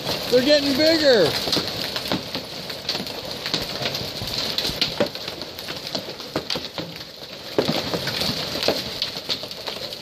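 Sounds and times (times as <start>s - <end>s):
hailstones striking patio and furniture: 0.0s - 10.0s.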